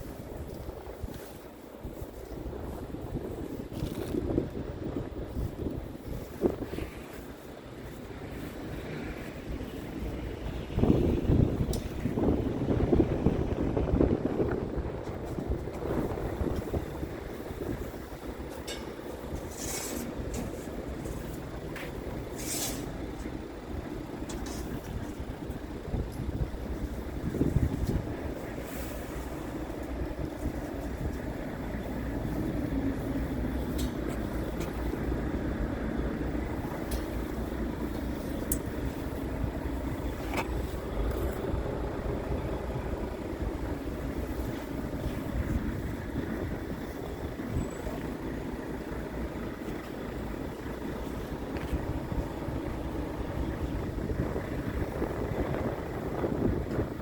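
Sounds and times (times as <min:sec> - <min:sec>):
truck diesel engine running: 0:01.6 - 0:57.0.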